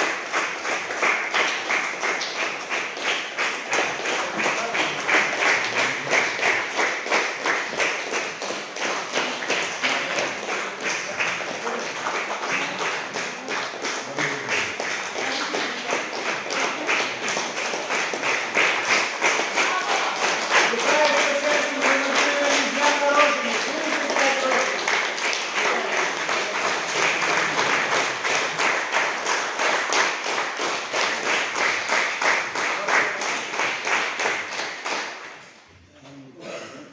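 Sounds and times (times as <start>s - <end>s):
audience clapping in unison: 0.0s - 35.7s.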